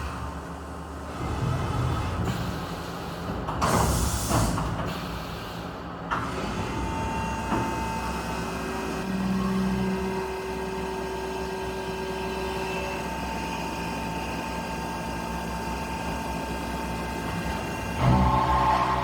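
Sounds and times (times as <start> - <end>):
machining center mechanical hum: 0.0 - 19.0.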